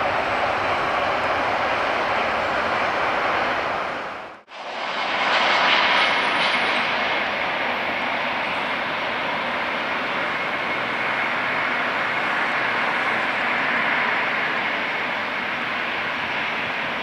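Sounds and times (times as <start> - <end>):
faint engine whine: 0.0 - 17.0
jet engines running: 0.0 - 17.0.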